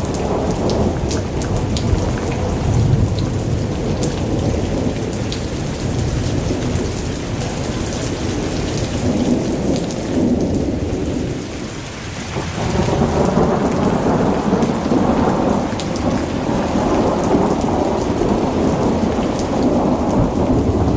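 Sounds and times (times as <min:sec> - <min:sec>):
heavy rain pouring: 0:00.0 - 0:20.9.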